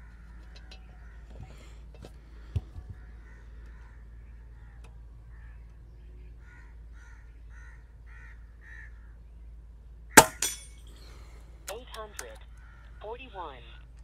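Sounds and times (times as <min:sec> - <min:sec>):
bird calling: 0:00.0 - 0:09.6, 0:10.2 - 0:14.0.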